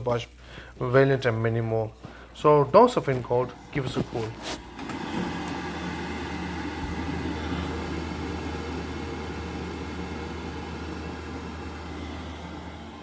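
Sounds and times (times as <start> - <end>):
gas boiler whirring: 0.0 - 13.0.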